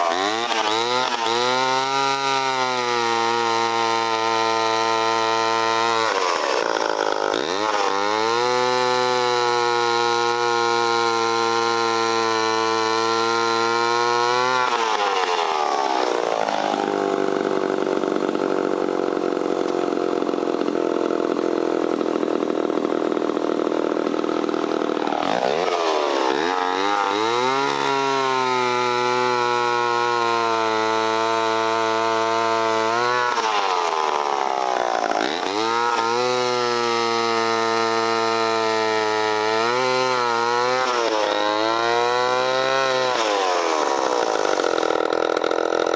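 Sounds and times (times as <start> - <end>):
chainsaw cutting a log: 0.0 - 45.9.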